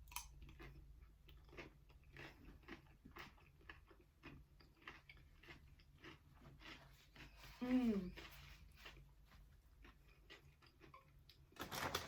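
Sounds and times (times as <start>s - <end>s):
chewing with crunches: 0.0s - 11.8s.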